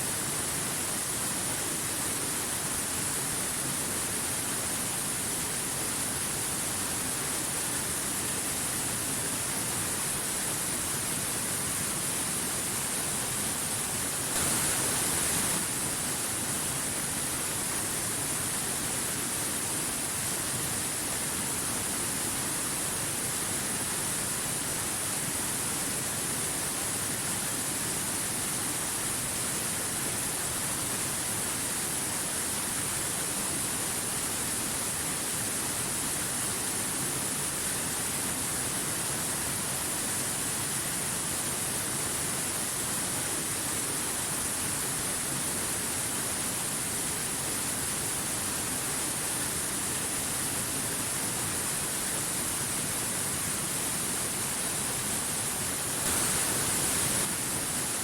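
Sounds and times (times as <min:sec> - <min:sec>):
stream rushing over rocks: 0:00.2 - 0:26.1, 0:26.7 - 0:58.0.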